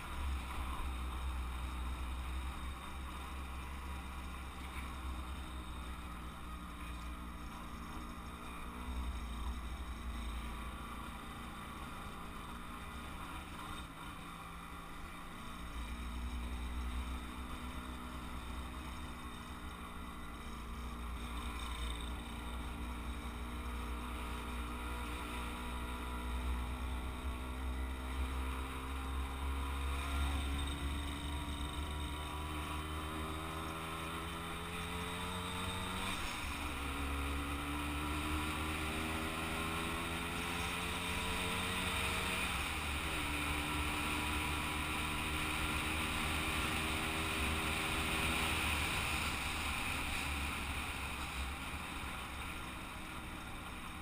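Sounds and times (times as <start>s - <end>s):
moped engine running: 0.0s - 54.0s.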